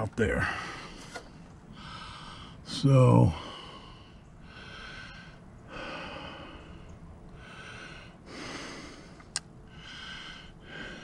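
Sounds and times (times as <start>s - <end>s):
man breathing close to microphone: 0.4s - 2.7s, 3.4s - 11.0s.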